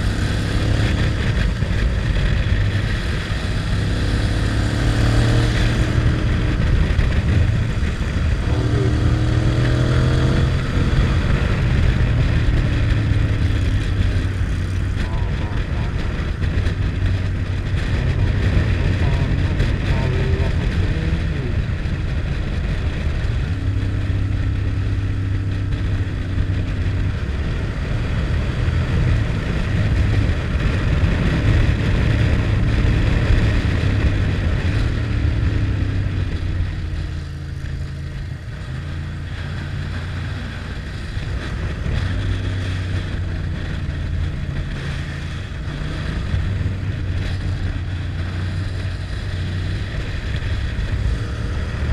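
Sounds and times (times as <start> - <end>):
motorcycle engine running: 0.0 - 51.9
wind rush: 0.0 - 51.9.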